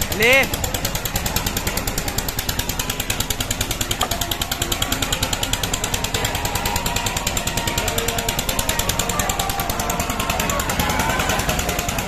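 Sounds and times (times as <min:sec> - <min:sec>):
machine running with rapid pulse: 0:00.0 - 0:12.0.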